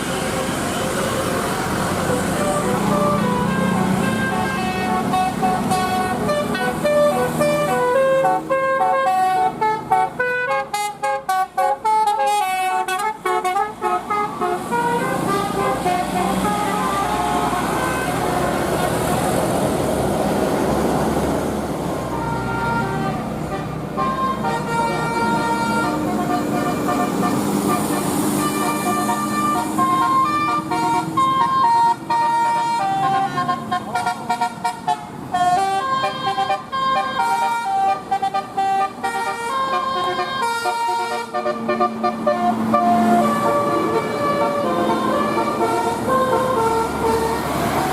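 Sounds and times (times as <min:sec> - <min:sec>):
bus horn playing melody: 0:00.0 - 0:19.4, 0:22.0 - 0:47.9
vehicle rumble: 0:00.0 - 0:47.9.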